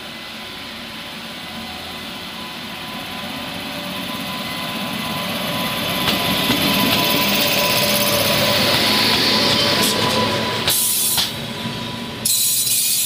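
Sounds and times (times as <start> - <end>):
electric locomotive whine: 0.0 - 13.0
wheels rushing on rails: 0.0 - 13.0.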